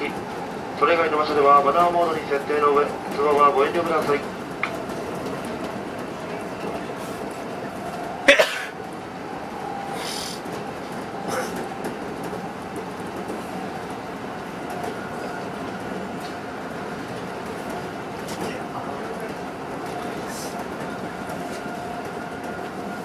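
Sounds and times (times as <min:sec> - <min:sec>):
train running rumble: 0:00.0 - 0:23.0.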